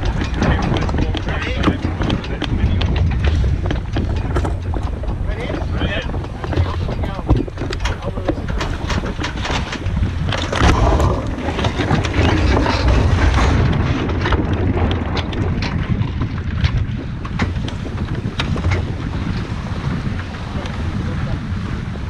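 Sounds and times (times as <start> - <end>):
water rushing past hull: 0.0 - 22.0
wind buffeting microphone: 0.0 - 22.0.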